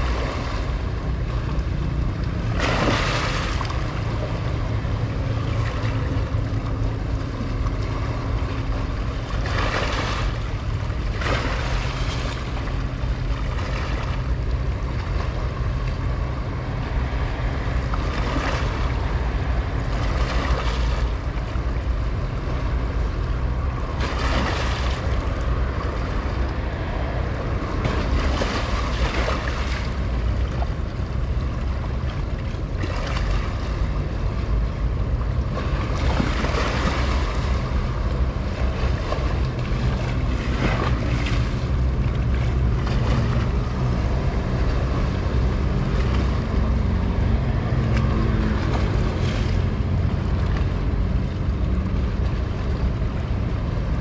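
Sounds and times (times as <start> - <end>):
low rumble: 0.0 - 54.0
waves washing: 0.0 - 54.0.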